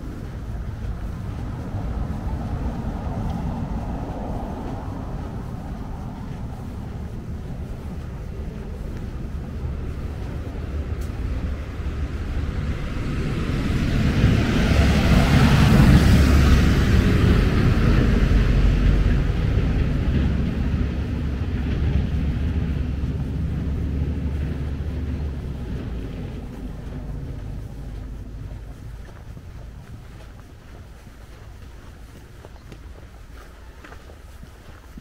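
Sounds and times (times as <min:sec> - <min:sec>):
vehicle passing by: 0:00.0 - 0:35.0.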